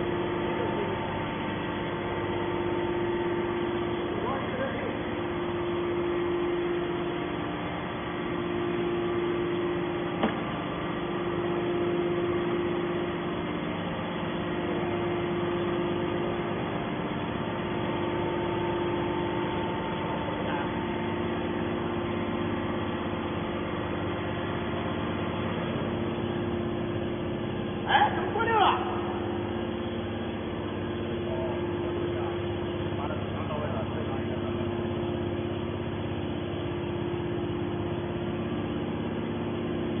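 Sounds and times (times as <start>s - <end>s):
hydraulic machine humming: 0.0s - 40.0s.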